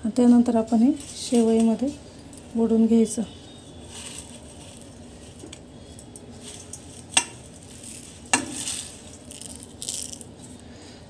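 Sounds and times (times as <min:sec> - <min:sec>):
dry noodles rustling and crackling: 0:00.2 - 0:11.0.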